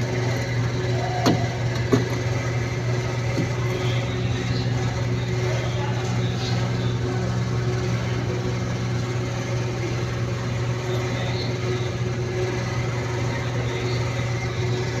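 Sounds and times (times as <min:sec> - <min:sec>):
machine hum with low drone: 0:00.0 - 0:15.0.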